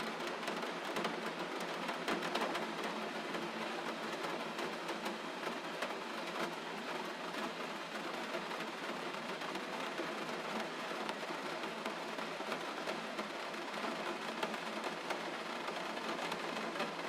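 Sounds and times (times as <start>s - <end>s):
gentle rain falling: 0.0s - 17.0s.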